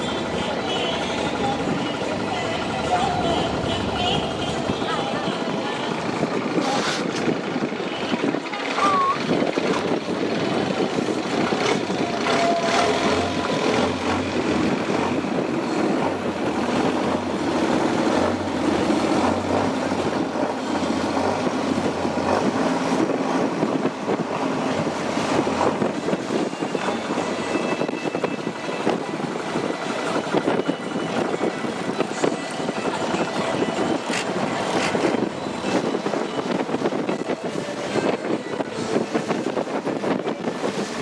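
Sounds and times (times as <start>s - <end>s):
boat engine running: 0.0s - 41.0s.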